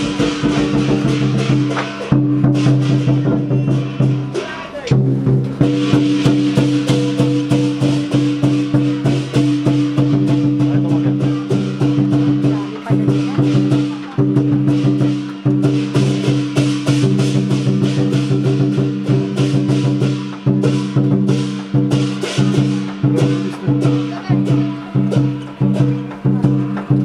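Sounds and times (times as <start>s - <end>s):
fast drum and cymbal percussion: 0.0s - 27.0s.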